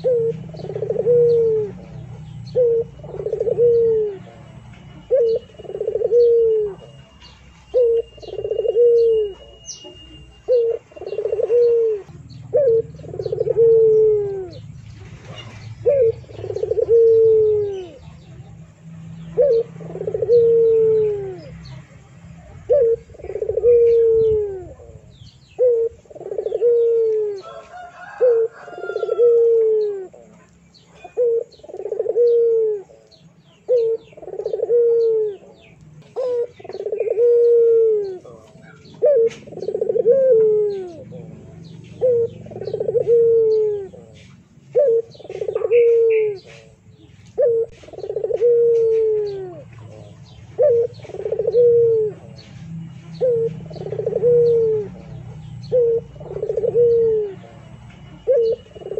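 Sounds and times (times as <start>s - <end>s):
bird cooing: 0.0s - 58.9s
small birds chirping: 0.0s - 58.9s.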